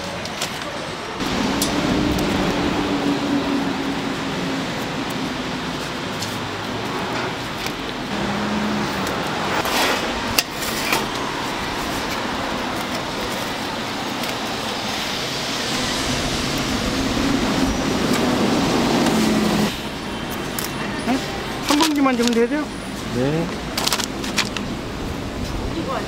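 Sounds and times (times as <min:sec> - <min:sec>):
street traffic noise: 0:00.0 - 0:26.0.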